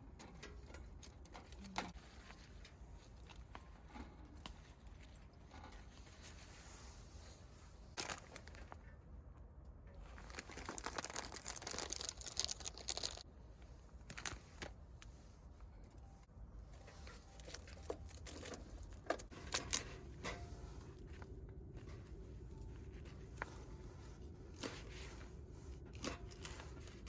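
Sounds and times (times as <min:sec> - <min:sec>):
crinkling rustle: 0:00.4 - 0:09.1, 0:09.9 - 0:27.0.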